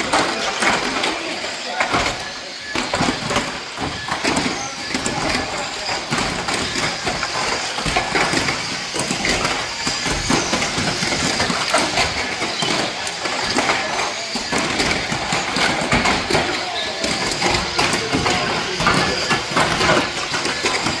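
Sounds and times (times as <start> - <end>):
cars clacking into each other: 0.0 - 21.0
toy car motors whirring: 0.0 - 21.0.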